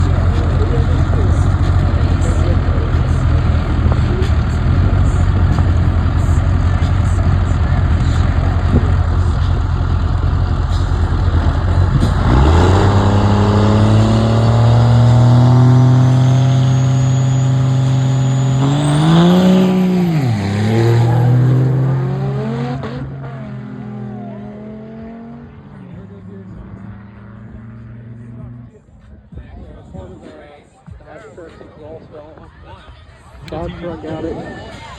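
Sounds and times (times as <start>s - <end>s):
engine rumble accelerating: 0.0s - 30.0s.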